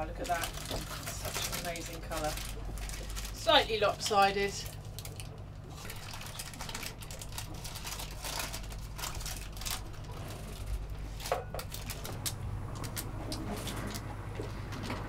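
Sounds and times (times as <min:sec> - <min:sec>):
baking parchment crinkling: 0:00.0 - 0:14.0
steady low hum: 0:00.0 - 0:15.0.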